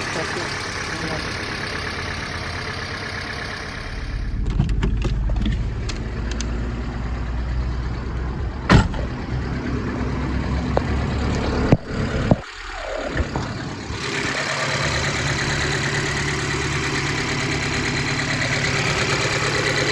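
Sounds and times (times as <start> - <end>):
engine lifter ticking: 0.0 - 6.6, 8.7 - 19.9
car engine running: 0.0 - 19.9.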